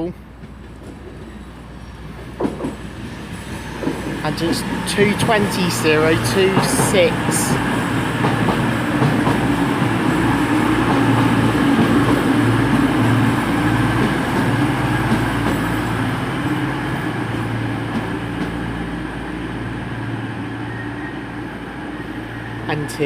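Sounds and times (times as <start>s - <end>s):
diesel train engines rumbling: 0.0s - 23.0s.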